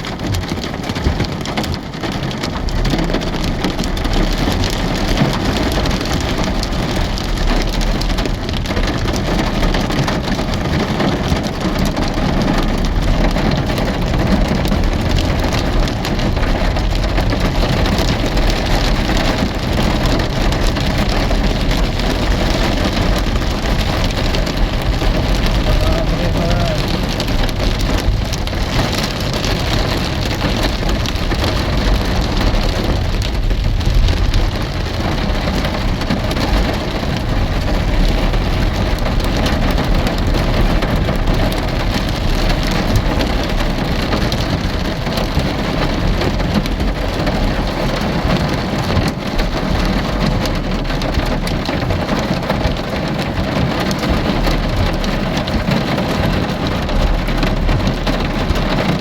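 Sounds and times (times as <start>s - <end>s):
constant low rumble: 0.0s - 59.0s
rain falling: 0.0s - 59.0s.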